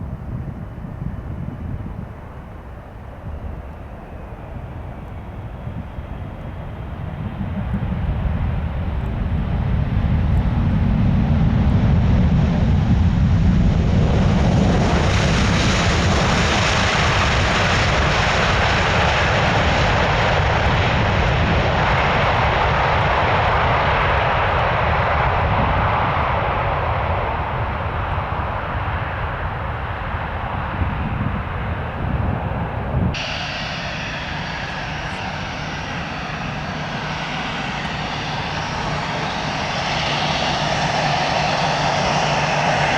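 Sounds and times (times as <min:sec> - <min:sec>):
aircraft engine: 0:00.0 - 0:42.9
jet airliner engines roaring: 0:00.0 - 0:42.9.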